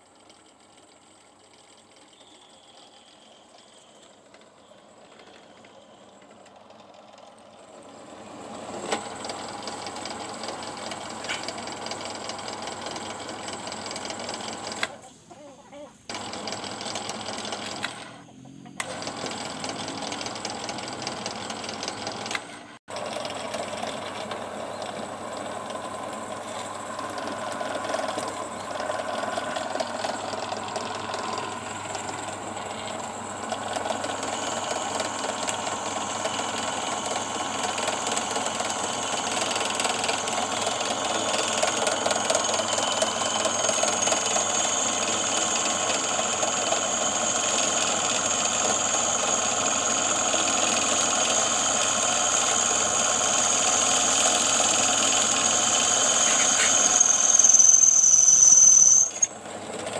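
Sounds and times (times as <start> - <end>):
drill press motor running: 0.0 - 15.0, 16.1 - 59.9.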